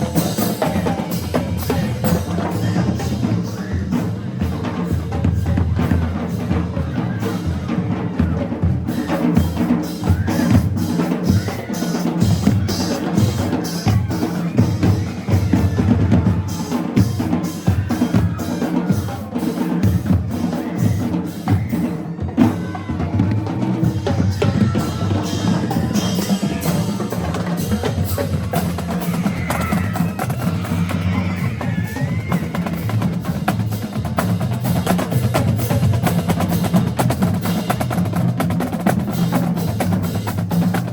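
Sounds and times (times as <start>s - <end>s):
bass drums: 0.0s - 40.9s
snare drums: 0.0s - 40.9s.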